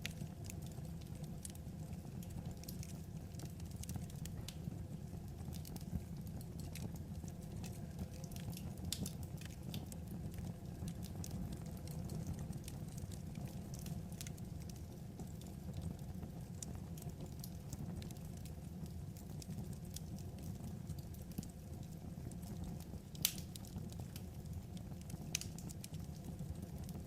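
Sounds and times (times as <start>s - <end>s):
low rumble of burning logs: 0.0s - 27.0s
wood fire crackling: 0.0s - 27.0s.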